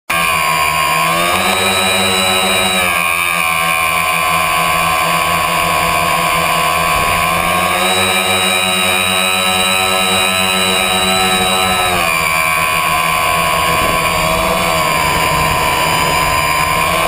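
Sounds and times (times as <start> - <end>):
drone motors whining: 0.1 - 17.0.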